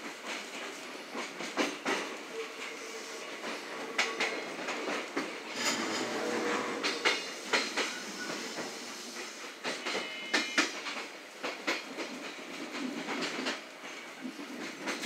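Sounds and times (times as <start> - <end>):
train rumble: 0.0 - 15.0
train wheels clicking over rail joints: 0.0 - 15.0.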